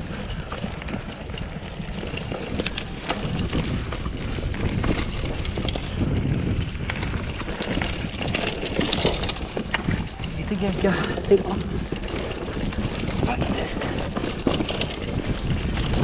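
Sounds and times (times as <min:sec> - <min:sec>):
bike clicking and rattling: 0:00.0 - 0:16.0
bike tyres rolling on dirt: 0:00.0 - 0:16.0.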